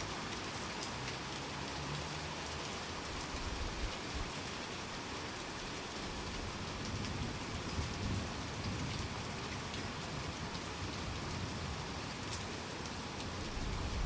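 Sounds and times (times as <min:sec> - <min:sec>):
heavy rain pattering: 0:00.0 - 0:14.0.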